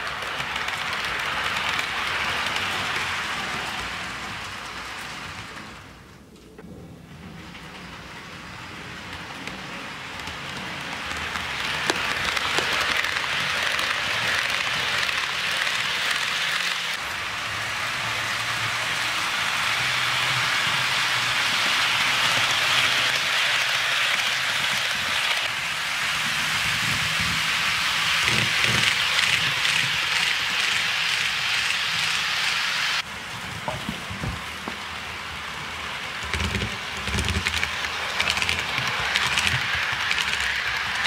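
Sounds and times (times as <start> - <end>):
model train wheels rolling on rails: 0.0 - 41.0.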